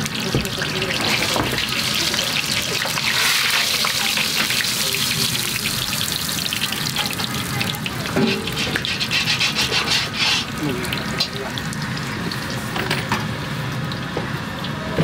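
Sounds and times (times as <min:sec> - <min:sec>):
hot oil sizzling: 0:00.0 - 0:14.9.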